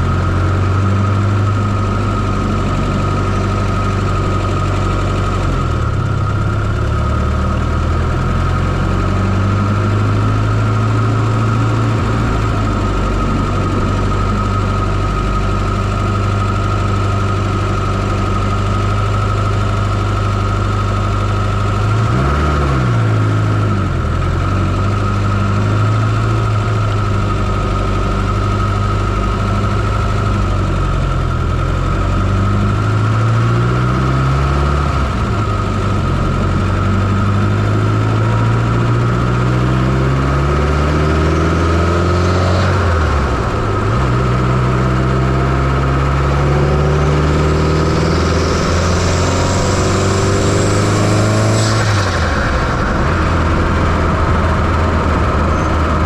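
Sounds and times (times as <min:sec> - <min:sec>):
car engine idling: 0:00.0 - 0:56.0
high whine: 0:00.0 - 0:56.0.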